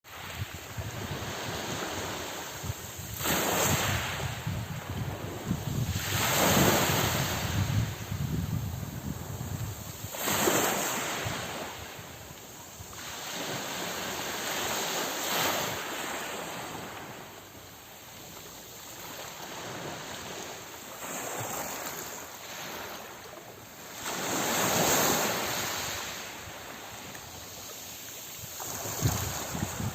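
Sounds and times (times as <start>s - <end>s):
small waves washing onto shore: 0.0s - 29.9s.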